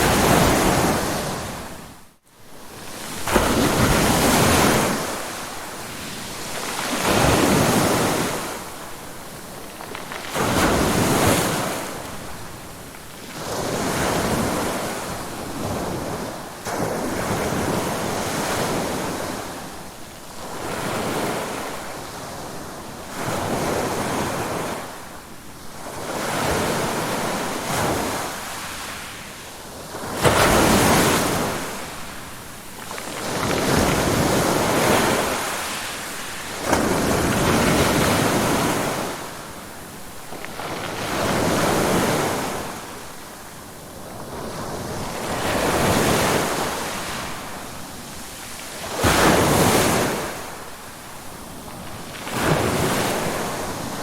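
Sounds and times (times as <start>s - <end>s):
ocean waves breaking on shore: 0.0s - 25.2s, 25.8s - 54.0s.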